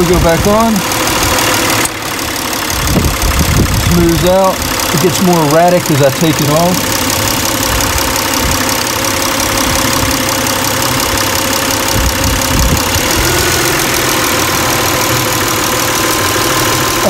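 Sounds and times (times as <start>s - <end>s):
car engine idling erratically: 0.0s - 17.0s.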